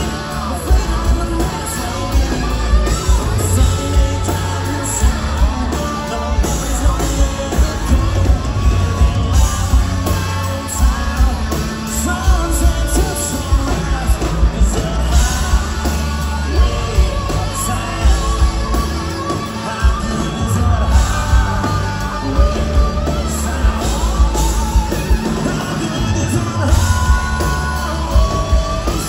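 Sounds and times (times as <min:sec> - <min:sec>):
person singing lead vocal: 0:00.0 - 0:29.0
rock band playing: 0:00.0 - 0:29.0.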